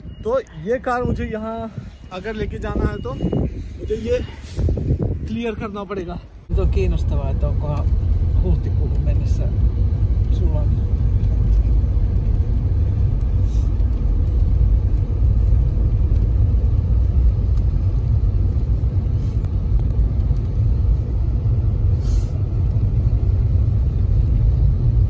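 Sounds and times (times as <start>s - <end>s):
car interior road rumble: 0.0s - 25.0s.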